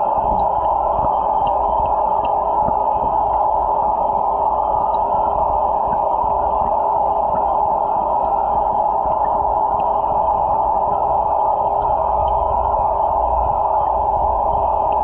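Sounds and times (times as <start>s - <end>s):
muffled underwater hiss and hum: 0.0s - 15.0s.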